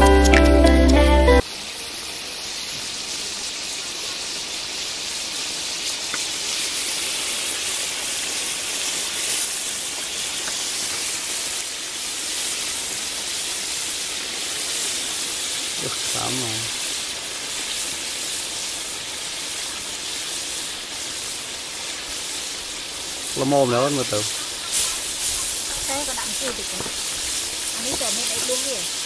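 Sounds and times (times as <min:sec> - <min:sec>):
stew sizzling in a wok: 0:00.0 - 0:29.0.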